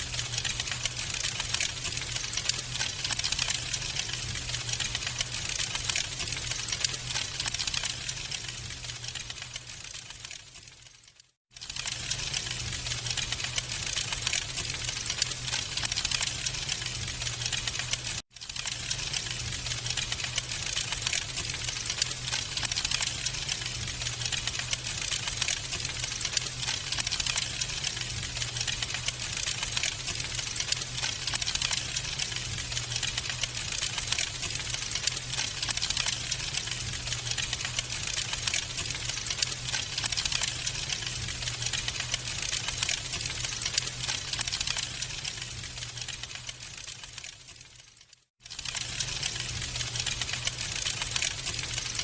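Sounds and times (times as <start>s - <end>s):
wood fire crackling: 0.0s - 11.0s, 11.6s - 52.0s.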